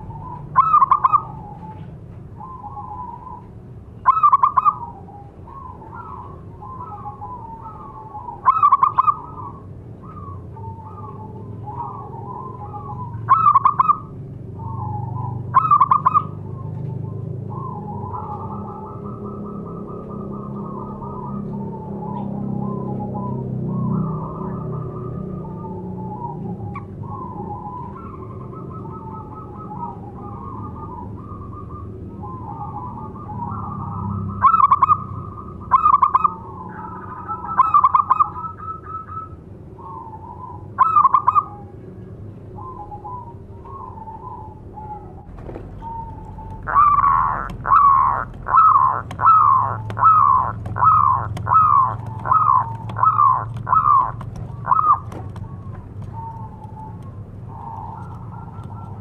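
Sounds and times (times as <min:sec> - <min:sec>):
dove cooing: 0:00.0 - 0:41.9, 0:42.6 - 0:59.0.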